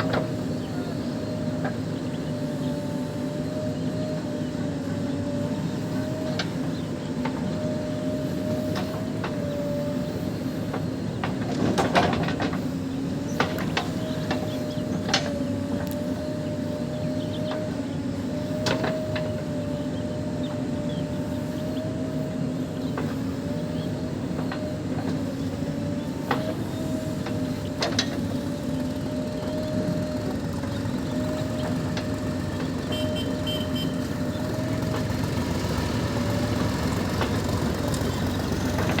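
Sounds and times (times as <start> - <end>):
constant engine whine: 0.0 - 39.0
heavy diesel engines working: 0.0 - 39.0.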